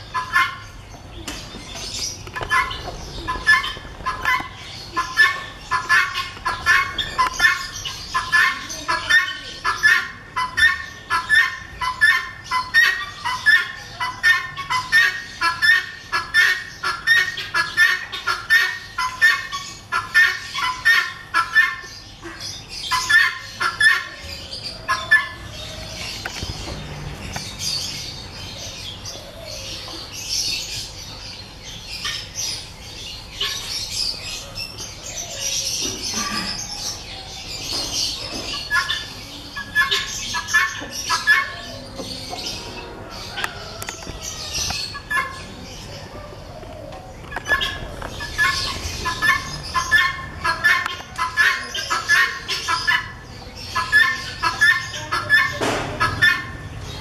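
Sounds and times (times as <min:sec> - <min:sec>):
guinea fowl calling: 0:00.0 - 0:26.4, 0:33.3 - 0:57.0.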